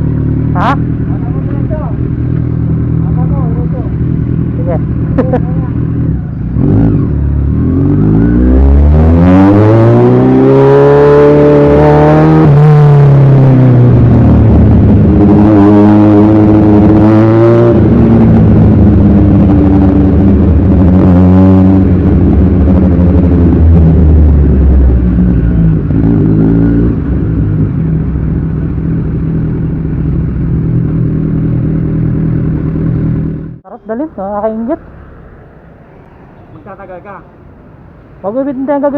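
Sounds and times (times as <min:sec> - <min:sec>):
motorcycle engine accelerating: 0:00.0 - 0:36.6.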